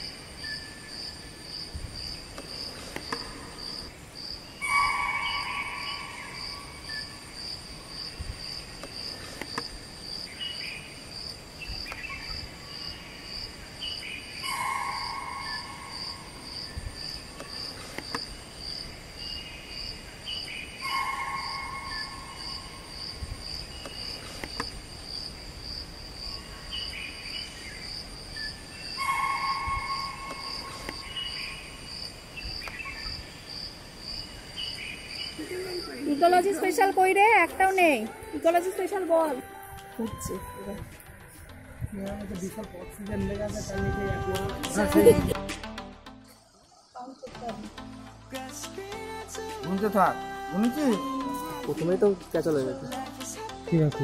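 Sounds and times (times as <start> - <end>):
insects chirping: 0.0 - 54.0.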